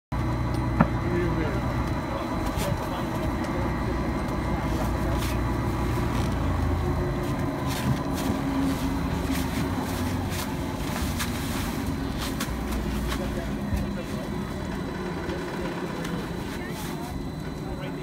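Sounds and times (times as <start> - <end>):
machinery humming: 0.1 - 18.0.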